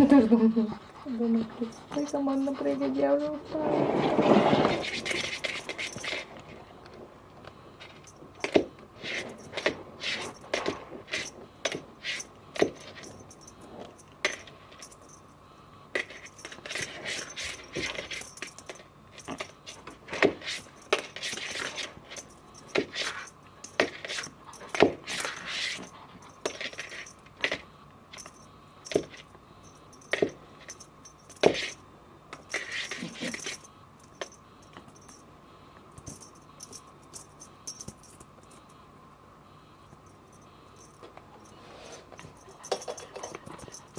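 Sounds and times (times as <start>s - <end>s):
light metallic jingling: 1.4s - 3.4s, 4.7s - 6.9s, 7.8s - 35.3s, 36.0s - 38.8s, 39.8s - 43.9s.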